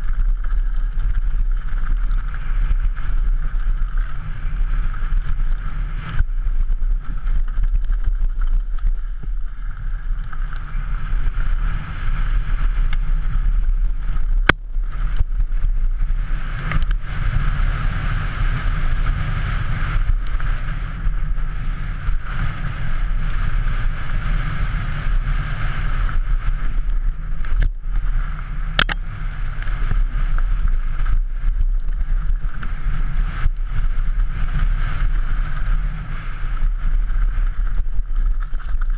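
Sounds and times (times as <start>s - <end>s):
bike rattling over stones: 0.0s - 38.9s
bike tyre rumble: 0.0s - 38.9s.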